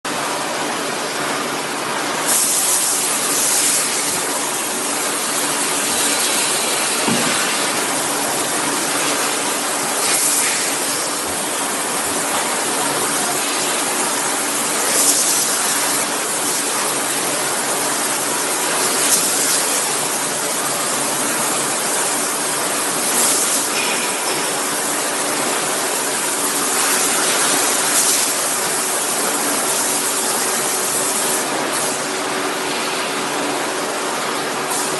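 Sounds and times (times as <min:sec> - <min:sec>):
machinery hiss and hum: 0:00.1 - 0:34.9.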